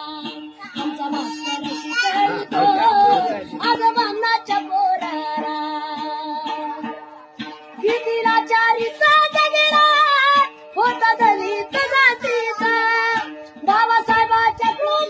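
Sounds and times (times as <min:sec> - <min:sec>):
one-string lute drone and plucks: 0:00.0 - 0:15.0
woman singing folk song: 0:00.0 - 0:15.0.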